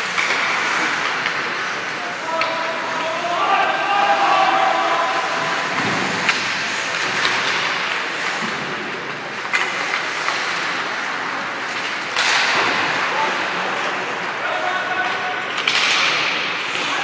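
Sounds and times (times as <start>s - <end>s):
hockey sticks and puck clicking: 0.0s - 3.8s, 5.2s - 17.0s
skate blades scraping ice: 0.0s - 14.6s.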